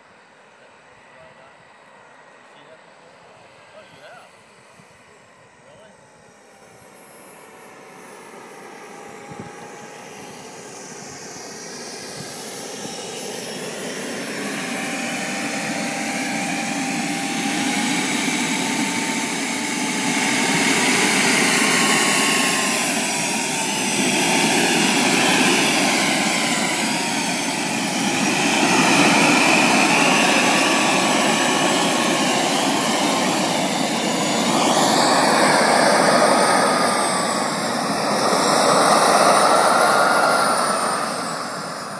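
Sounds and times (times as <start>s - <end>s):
model jet turbine whining: 0.0s - 41.9s.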